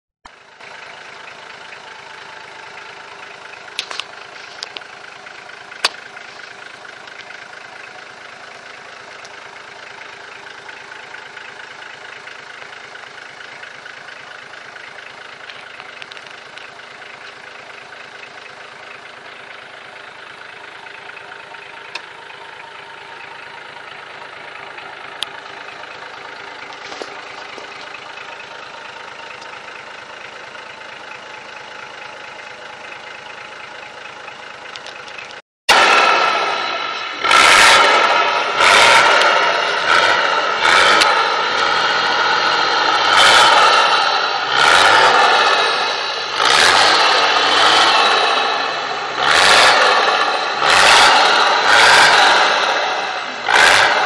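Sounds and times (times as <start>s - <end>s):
car engine idling: 0.3s - 54.0s.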